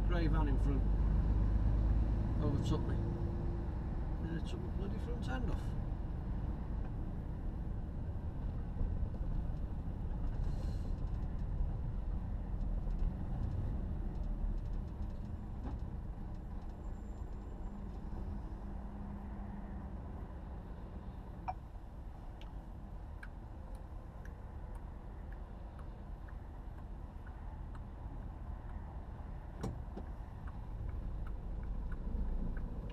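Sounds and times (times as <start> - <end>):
car cabin road and engine rumble: 0.0 - 32.9.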